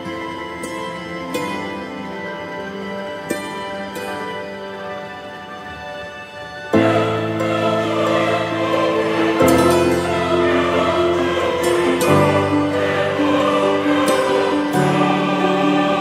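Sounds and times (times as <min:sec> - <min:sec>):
slow choral chords: 0:00.0 - 0:16.0.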